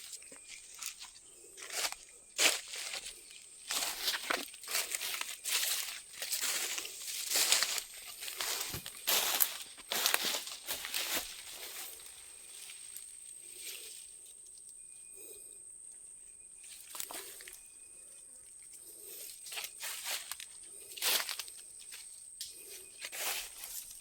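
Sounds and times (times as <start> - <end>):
dry leaves and twigs crackling: 0.0 - 14.9, 16.6 - 24.0.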